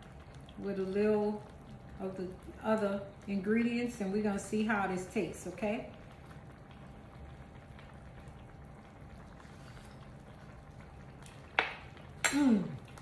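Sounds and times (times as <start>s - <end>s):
stuffing bubbling in skillet: 0.0s - 13.0s.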